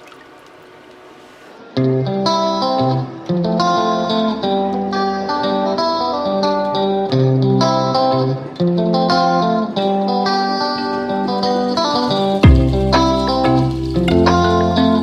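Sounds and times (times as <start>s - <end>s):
plucked guitar music: 1.8s - 15.0s.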